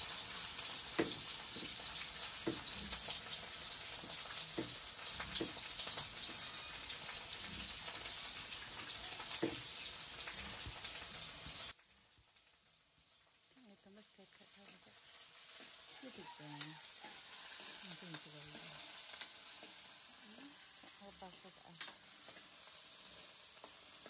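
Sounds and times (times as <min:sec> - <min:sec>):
gas burner hissing: 0:00.0 - 0:11.8, 0:13.8 - 0:24.0
light crackling: 0:00.0 - 0:24.0.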